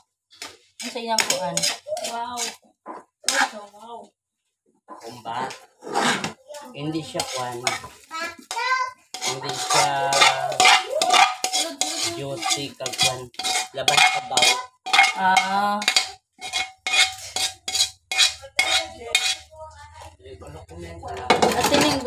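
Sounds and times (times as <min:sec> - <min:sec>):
utensil scraping metal wok: 0:00.4 - 0:02.6, 0:03.2 - 0:03.7, 0:05.2 - 0:20.1, 0:21.1 - 0:22.0.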